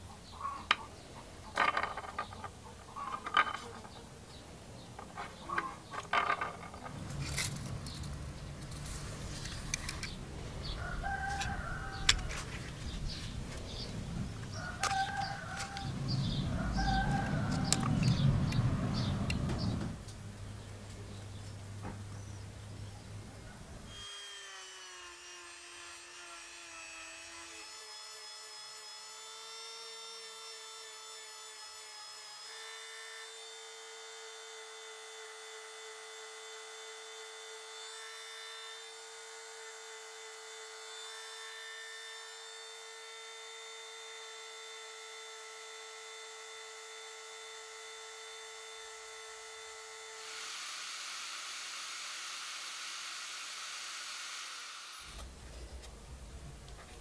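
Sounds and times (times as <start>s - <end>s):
electric sanding disc whine: 1.5s - 20.1s, 23.8s - 57.0s.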